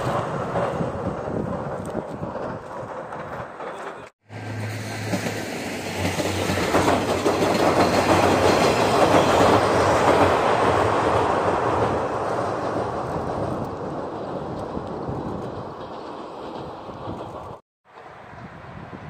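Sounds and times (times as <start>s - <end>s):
diesel railcar engine hum: 0.0s - 19.0s
wheels rumbling on rails: 0.0s - 19.0s.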